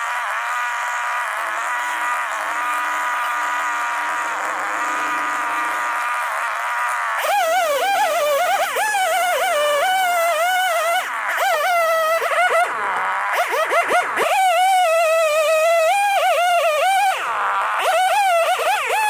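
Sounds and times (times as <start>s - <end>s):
chainsaw revving under load: 0.0s - 19.0s.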